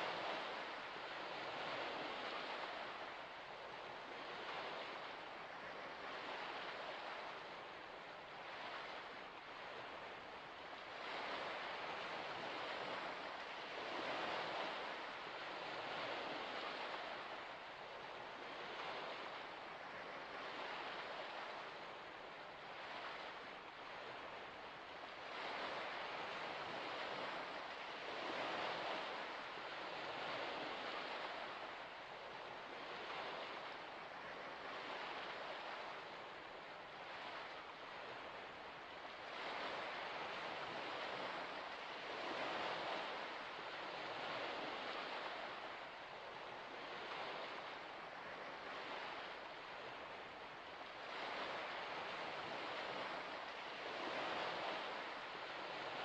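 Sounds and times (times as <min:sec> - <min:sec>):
small waves washing in: 0:00.0 - 0:56.0.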